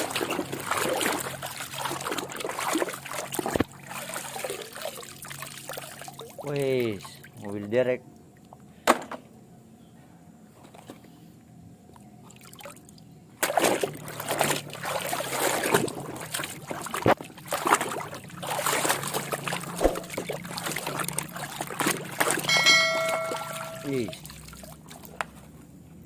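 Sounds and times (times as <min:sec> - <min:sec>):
water splashing and sloshing: 0:00.0 - 0:09.0, 0:11.9 - 0:25.7.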